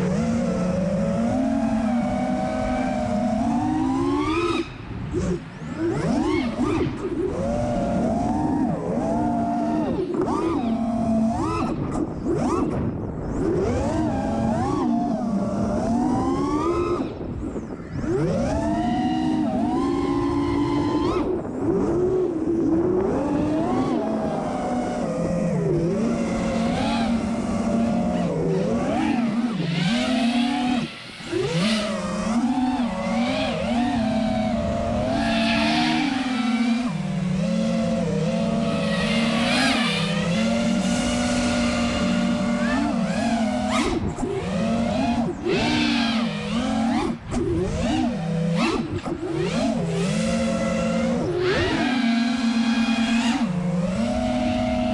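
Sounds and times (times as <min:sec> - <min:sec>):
quadcopter motors buzzing whine: 0:00.0 - 0:54.9.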